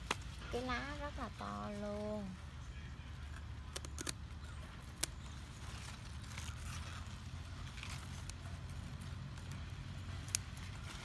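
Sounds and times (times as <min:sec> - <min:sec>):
leaves rustling and crackling: 0:00.0 - 0:11.0.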